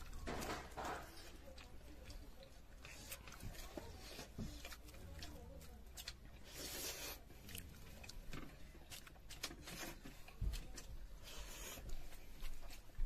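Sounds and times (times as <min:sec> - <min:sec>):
noodles being slurped: 0:00.0 - 0:12.1.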